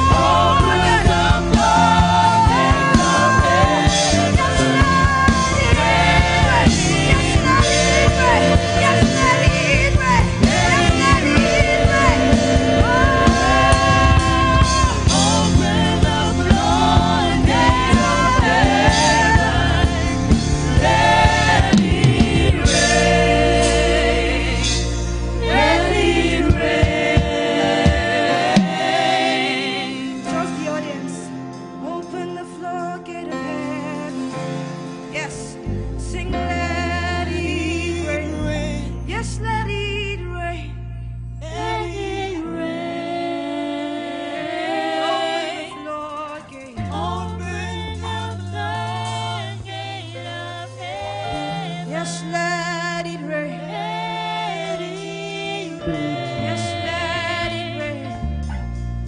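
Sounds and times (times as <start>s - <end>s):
gospel song with choir and band: 0.0s - 59.0s.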